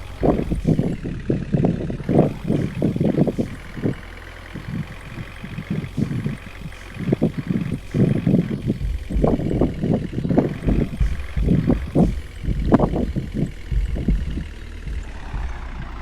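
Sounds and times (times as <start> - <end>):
rumbling bursts: 0.0 - 16.0
truck engine humming: 0.0 - 16.0.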